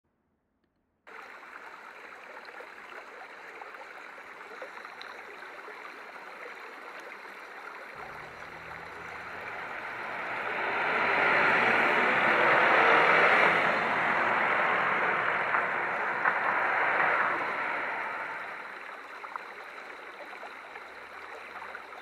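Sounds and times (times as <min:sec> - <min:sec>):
flowing water rushing: 0:01.1 - 0:22.0.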